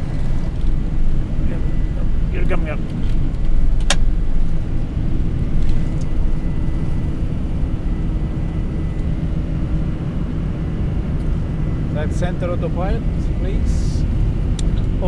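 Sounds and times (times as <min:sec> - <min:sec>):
aircraft engine rumble: 0:00.0 - 0:15.0.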